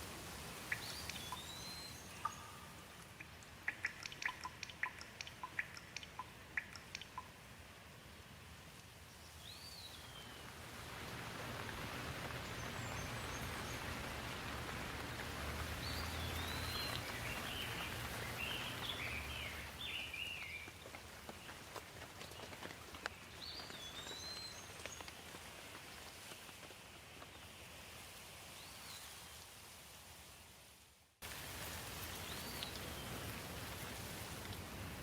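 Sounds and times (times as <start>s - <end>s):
rain on leaves: 0.0s - 35.0s.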